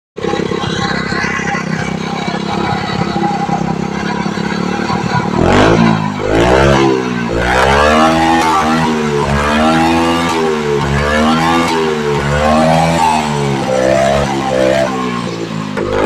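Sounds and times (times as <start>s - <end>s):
motorcycle engine idling and revving: 0.2s - 16.0s.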